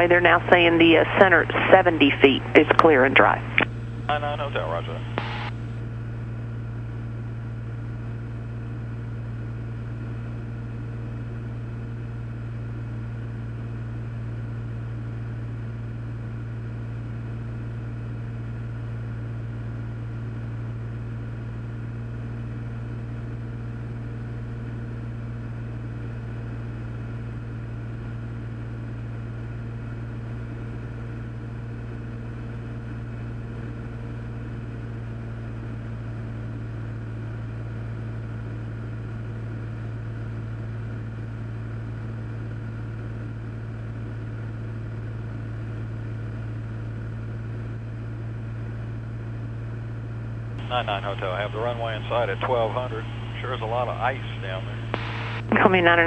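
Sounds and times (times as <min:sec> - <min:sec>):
aircraft engine and propeller droning: 0:00.0 - 0:56.0.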